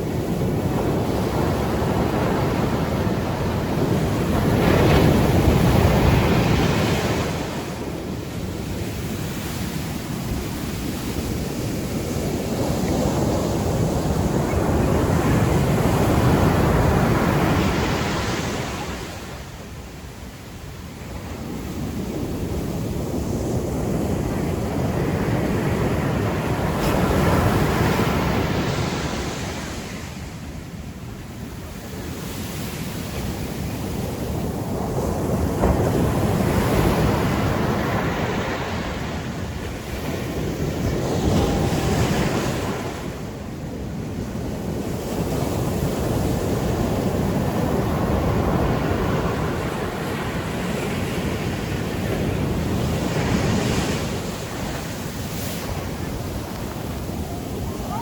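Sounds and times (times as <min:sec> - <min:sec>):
waves breaking on beach: 0:00.0 - 0:58.0
wind on microphone: 0:00.0 - 0:58.0.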